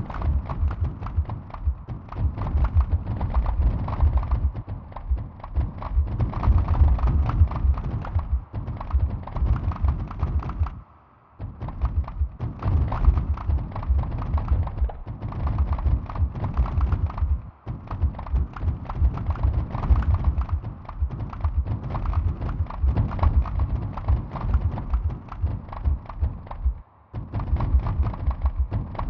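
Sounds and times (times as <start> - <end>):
short deep thuds and clicks: 0.0 - 10.8, 11.4 - 29.0.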